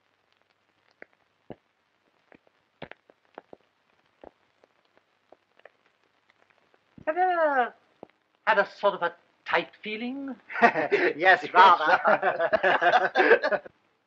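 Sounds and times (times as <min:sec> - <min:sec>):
film soundtrack surface crackle: 0:00.0 - 0:14.0.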